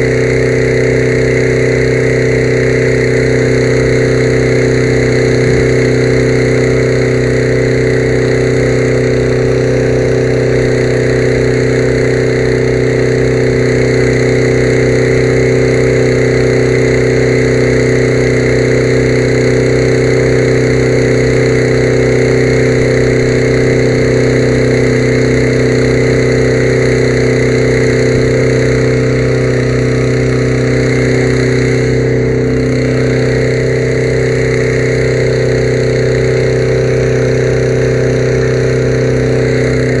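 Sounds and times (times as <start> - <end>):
engine droning steadily: 0.0 - 40.0.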